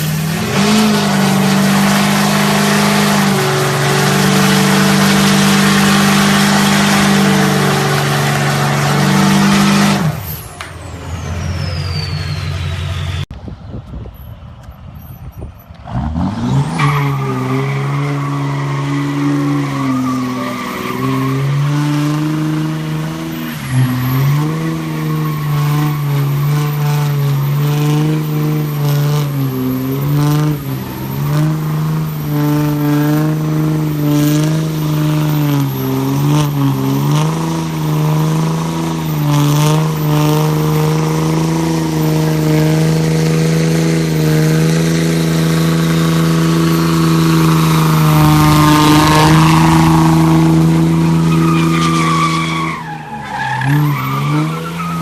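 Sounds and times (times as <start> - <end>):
spinning tyres hissing: 0.0 - 13.3, 14.6 - 55.0
diesel engine at high revs: 0.0 - 13.9, 15.3 - 55.0.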